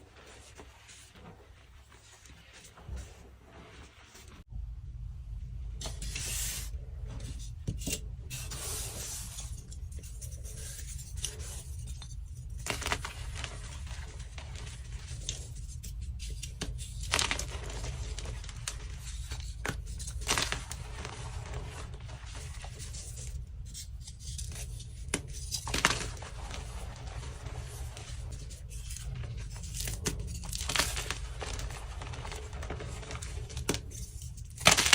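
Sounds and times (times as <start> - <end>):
chalk crunching and scraping: 0.0 - 4.5, 5.8 - 34.9
low hum: 1.1 - 34.6.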